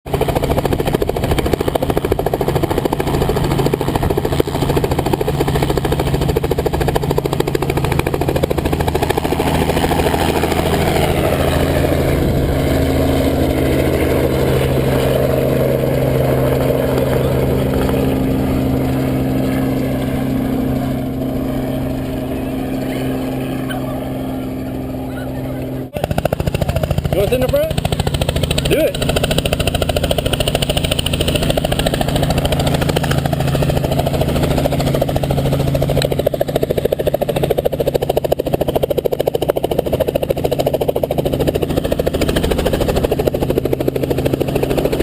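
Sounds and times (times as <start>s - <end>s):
helicopter rotor beat: 0.0s - 45.0s
helicopter engine hum: 0.1s - 45.0s.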